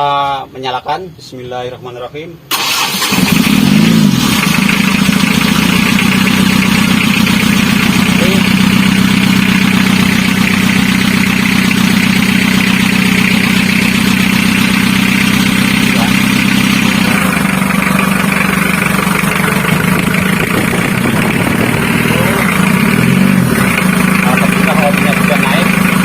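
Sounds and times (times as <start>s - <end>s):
diesel engine idling: 2.5s - 26.0s.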